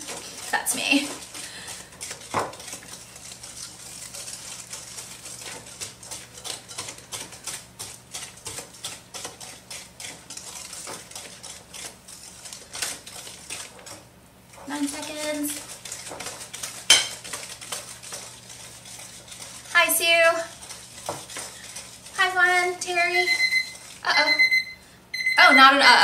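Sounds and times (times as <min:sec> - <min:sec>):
whisk beating dough in glass bowl: 0:00.0 - 0:24.6.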